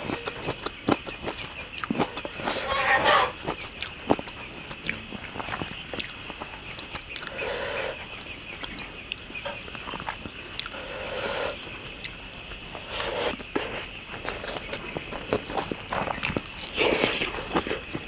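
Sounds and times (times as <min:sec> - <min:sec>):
wet chewing and lip-smacking: 0:00.0 - 0:02.6, 0:03.3 - 0:07.4, 0:08.2 - 0:10.9, 0:11.9 - 0:18.0.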